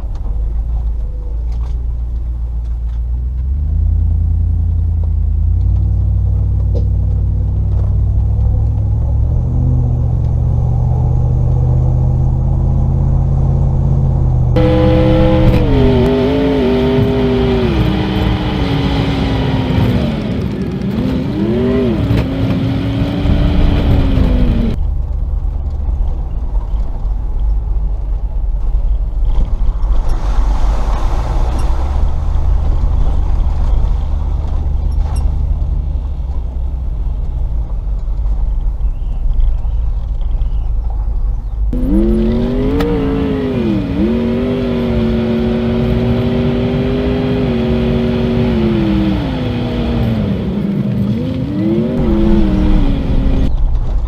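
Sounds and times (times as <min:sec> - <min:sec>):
car engine running: 0:00.0 - 0:29.7, 0:31.8 - 0:54.0
deep steady rumble: 0:00.0 - 0:54.0.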